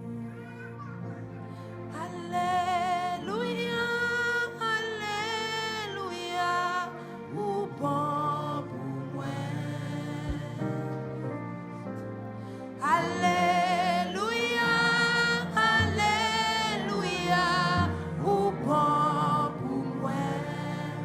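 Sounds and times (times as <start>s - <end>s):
instrumental accompaniment chords: 0.0s - 21.0s
woman singing gospel: 1.9s - 11.1s, 12.8s - 21.0s.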